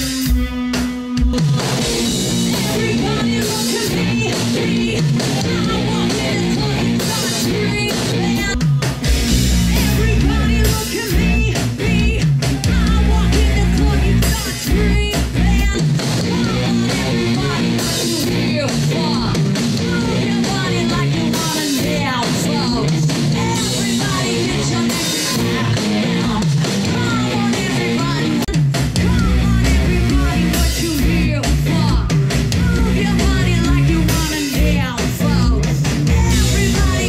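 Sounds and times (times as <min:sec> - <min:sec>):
bass guitar: 0:00.0 - 0:37.0
drum kit: 0:00.0 - 0:37.0
electric guitar: 0:00.0 - 0:37.0
live rock band: 0:00.0 - 0:37.0
woman singing: 0:01.2 - 0:37.0.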